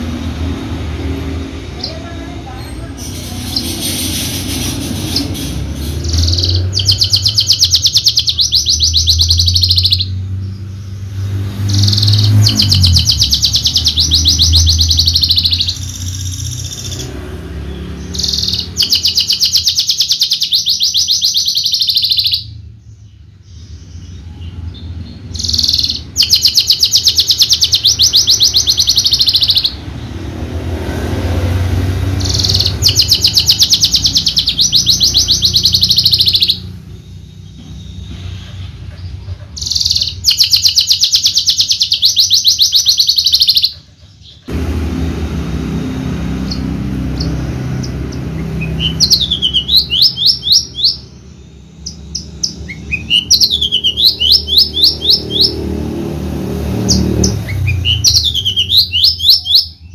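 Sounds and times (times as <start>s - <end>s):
bird singing rapid rattling trills: 1.7s - 44.5s, 45.8s - 59.9s.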